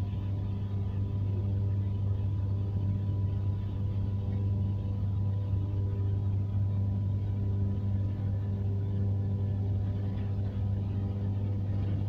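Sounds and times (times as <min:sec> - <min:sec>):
faint steady whine: 0:00.0 - 0:12.0
low mechanical hum: 0:00.0 - 0:12.0.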